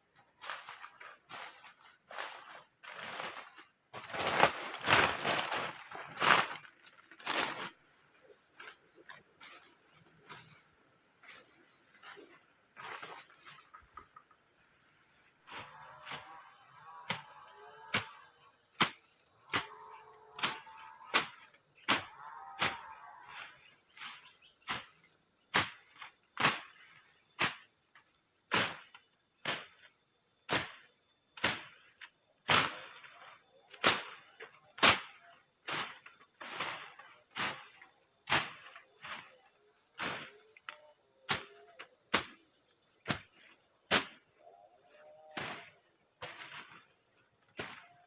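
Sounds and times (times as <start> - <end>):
insects droning: 0.0 - 48.0.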